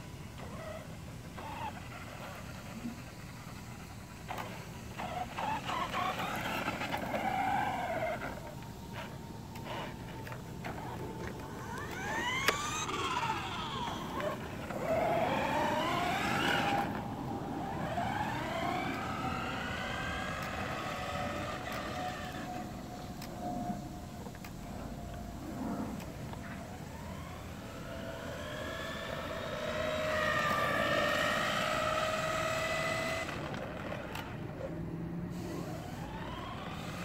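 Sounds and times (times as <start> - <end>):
rc car motors whining: 0.0 - 37.0.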